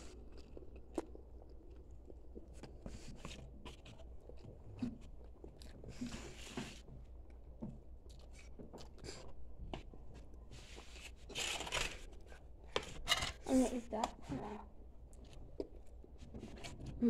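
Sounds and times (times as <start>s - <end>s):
person chewing food: 0.0s - 13.0s, 15.0s - 16.2s.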